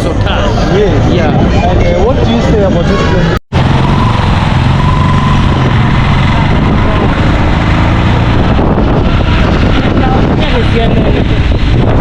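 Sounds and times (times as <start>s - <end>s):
traffic noise: 0.0s - 12.0s
vehicle engine humming: 0.0s - 12.0s
wind on microphone: 0.0s - 12.0s.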